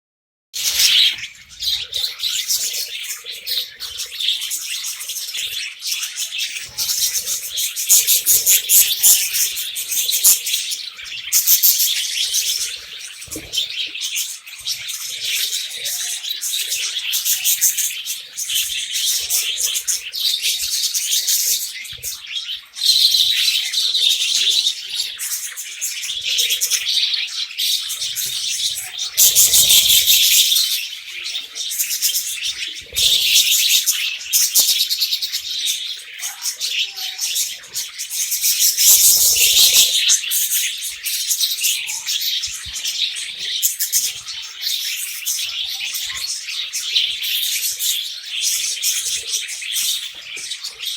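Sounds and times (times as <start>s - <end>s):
budgerigars chattering and warbling: 0.6s - 50.9s.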